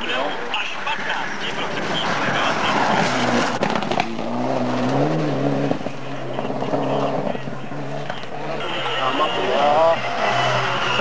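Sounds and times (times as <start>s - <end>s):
rally car passing at speed: 1.0s - 11.0s.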